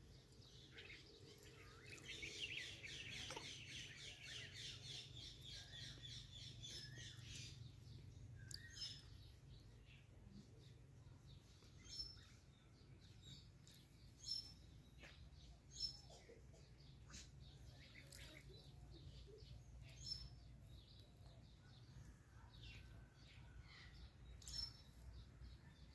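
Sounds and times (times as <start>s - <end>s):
faint high bird chirps: 0.6s - 25.9s.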